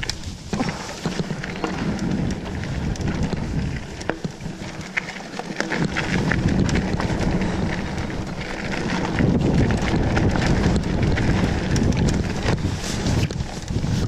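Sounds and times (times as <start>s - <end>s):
bike rattles and clicks: 0.0s - 14.0s
tyres rumbling on dirt: 0.0s - 14.0s.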